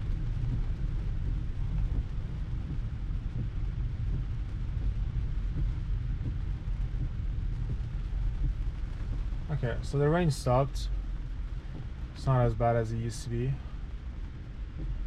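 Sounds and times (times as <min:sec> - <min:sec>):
rain pattering on car: 0:00.0 - 0:15.0
road rumble: 0:00.0 - 0:15.0.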